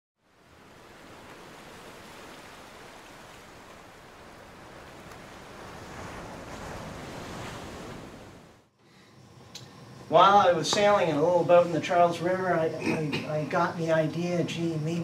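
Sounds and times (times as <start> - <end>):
ocean waves washing: 0.2 - 15.0.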